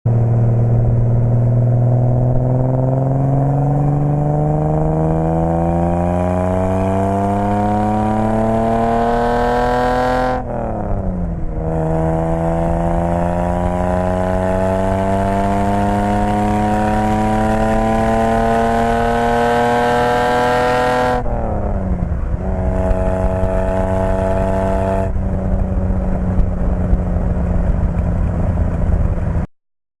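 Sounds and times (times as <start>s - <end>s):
car exhaust accelerating: 0.1s - 29.5s.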